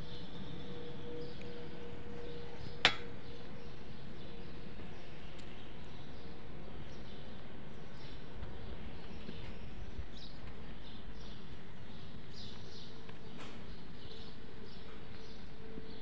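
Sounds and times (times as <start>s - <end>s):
outdoor street ambience hum: 0.0s - 16.0s.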